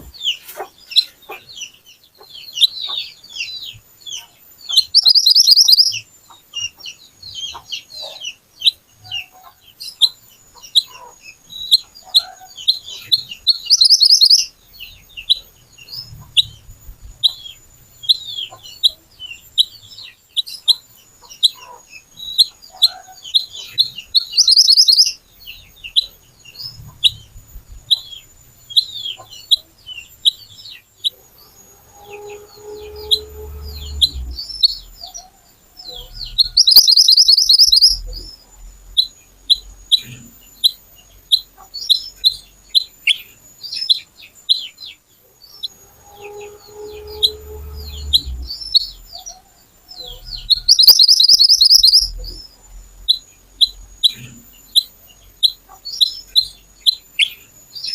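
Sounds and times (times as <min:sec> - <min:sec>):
songbird chirping: 0:00.0 - 0:57.9.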